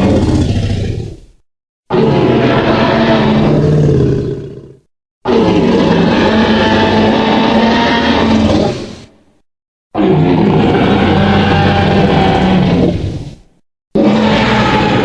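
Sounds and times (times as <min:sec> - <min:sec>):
dinosaur roar: 0:00.0 - 0:09.1, 0:10.0 - 0:15.0.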